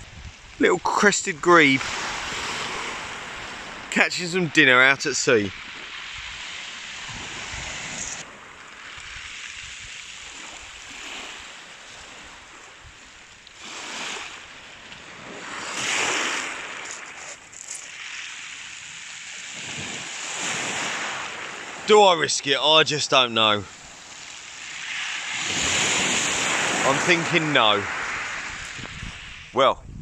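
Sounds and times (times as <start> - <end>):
small waves breaking on shingle: 1.2 - 29.4.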